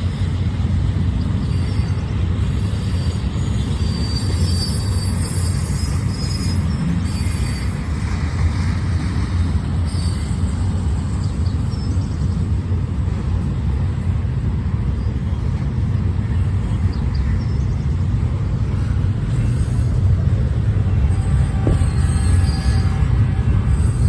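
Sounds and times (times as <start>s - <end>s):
freight train rolling by: 0.0s - 24.0s.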